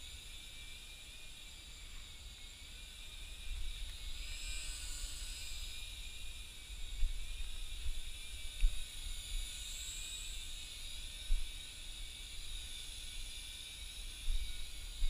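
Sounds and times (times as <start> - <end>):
toy helicopter rotors whining: 0.0 - 15.0.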